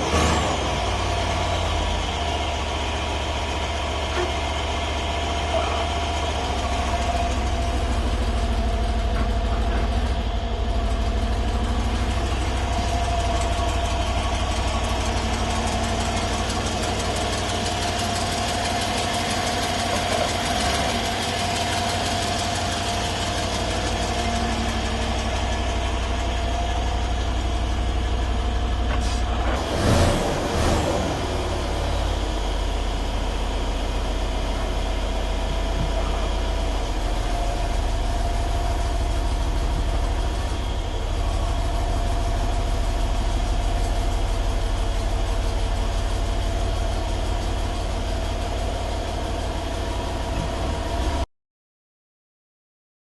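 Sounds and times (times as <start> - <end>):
car engine idling: 0.0 - 51.2.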